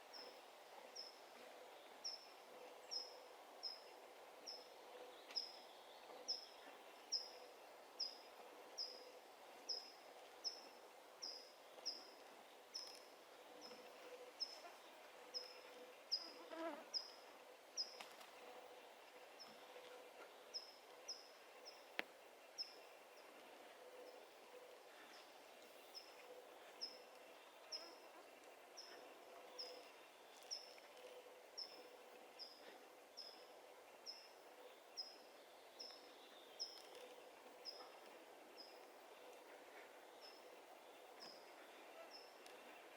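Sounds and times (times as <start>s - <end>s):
faint insect-like hum: 0.0s - 42.9s.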